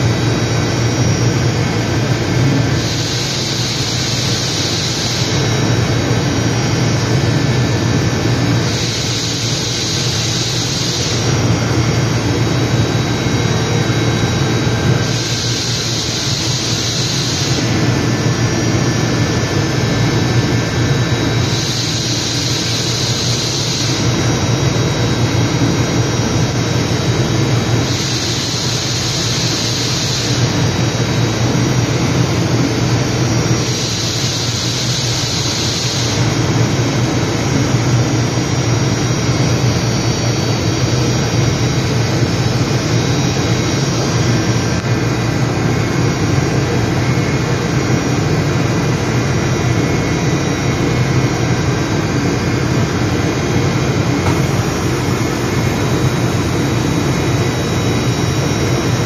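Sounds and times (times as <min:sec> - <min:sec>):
high machine hiss: 0:00.0 - 0:59.0
machining center hum: 0:00.0 - 0:59.0.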